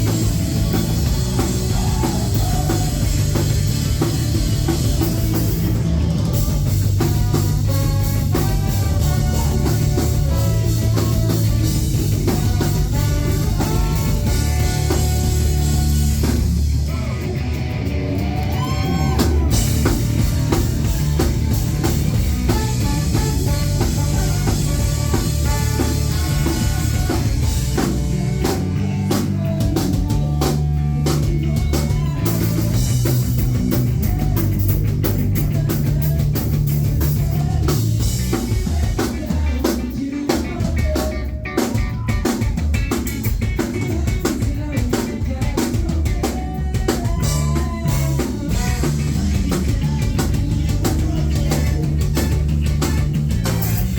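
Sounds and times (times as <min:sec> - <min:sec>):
heavy bass line: 0:00.0 - 0:53.9
live rock band playing: 0:00.0 - 0:53.9.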